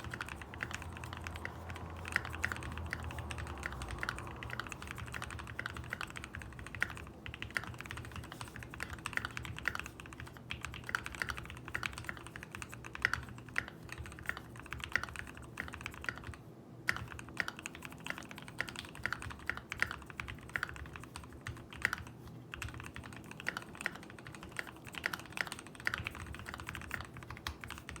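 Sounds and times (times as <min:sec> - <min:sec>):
mechanical keyboard typing: 0:00.0 - 0:28.0.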